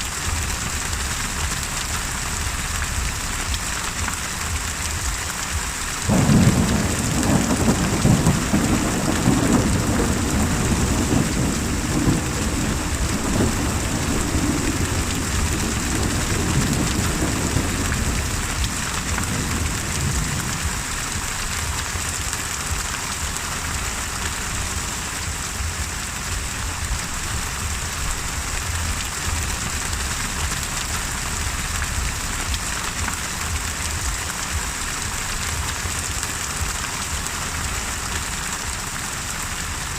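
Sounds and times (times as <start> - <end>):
rain hissing: 0.0 - 39.9
thunderclap with rolling rumble: 0.1 - 38.3.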